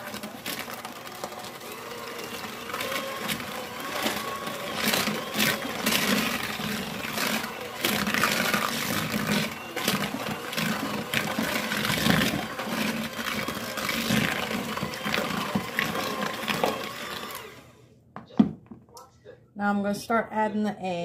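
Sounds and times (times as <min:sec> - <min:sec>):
electric hand mixer running: 0:00.0 - 0:17.8.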